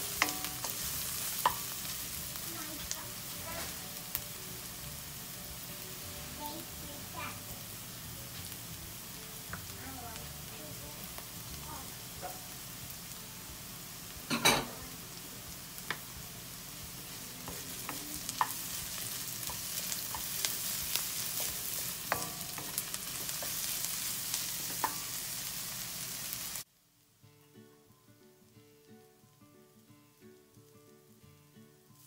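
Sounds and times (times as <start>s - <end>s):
faint music: 0.0s - 32.0s
onions sizzling in a wok: 0.0s - 32.0s.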